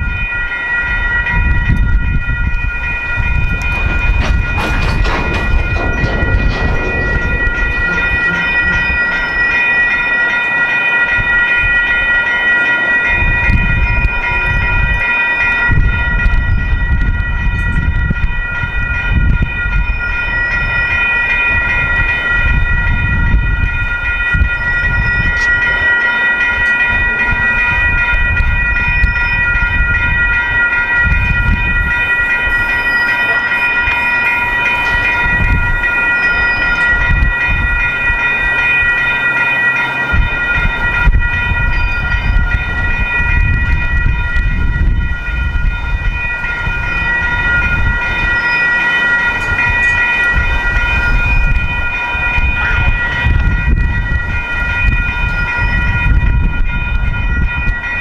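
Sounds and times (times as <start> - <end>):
crossing warning bells ringing: 0.0 - 58.0
train wheels rumbling on rails: 0.0 - 58.0.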